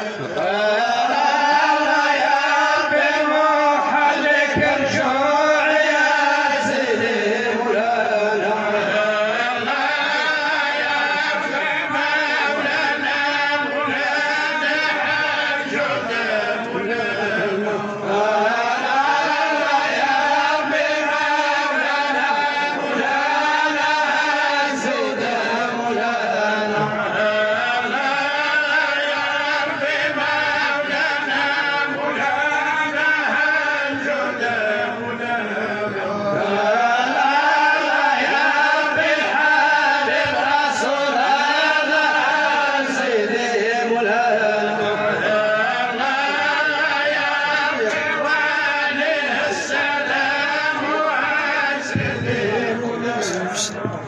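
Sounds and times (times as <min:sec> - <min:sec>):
men chanting: 0:00.0 - 0:54.0.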